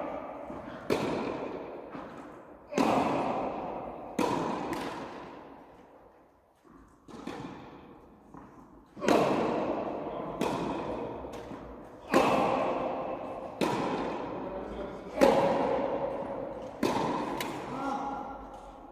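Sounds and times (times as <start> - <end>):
tennis ball hits and bounces: 0.4 - 5.9, 6.6 - 14.5, 15.1 - 17.8.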